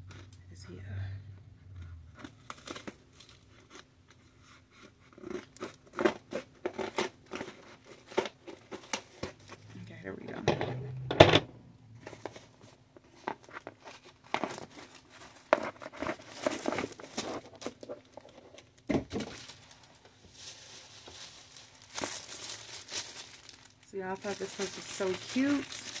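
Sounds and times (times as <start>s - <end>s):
cardboard and paper crinkling: 2.1s - 10.4s, 12.0s - 26.0s.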